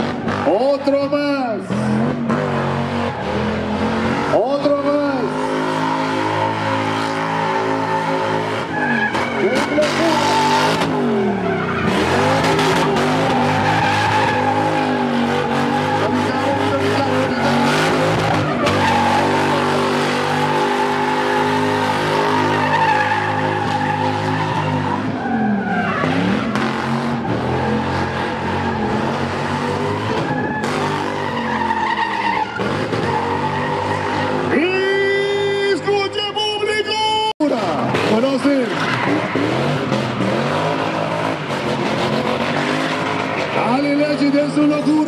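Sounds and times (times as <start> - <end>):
car engine at high revs: 0.0 - 35.9, 37.6 - 45.0
tyres squealing: 3.0 - 35.6, 38.0 - 45.0.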